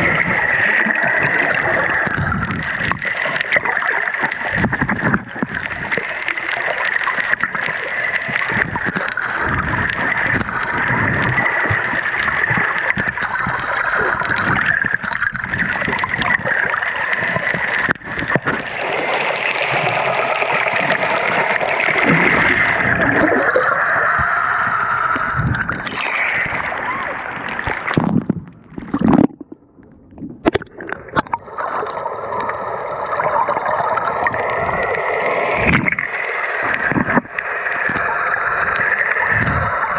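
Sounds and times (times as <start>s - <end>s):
water gurgling and sloshing underwater: 0.0s - 39.9s.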